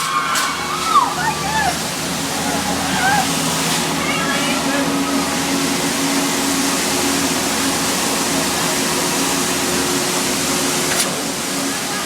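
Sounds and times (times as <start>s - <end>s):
amusement ride rushing: 0.0s - 12.0s.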